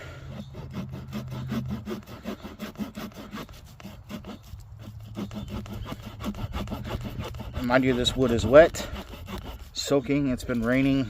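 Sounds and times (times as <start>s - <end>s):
saw cutting wet stick: 0.0s - 11.0s.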